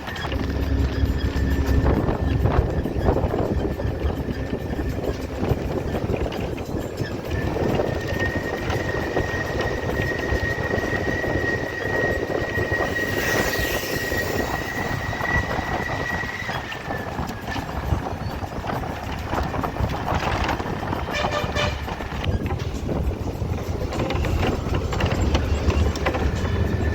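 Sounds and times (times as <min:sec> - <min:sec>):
high squeal: 0:00.0 - 0:26.9
train rumble and clatter: 0:00.0 - 0:26.9.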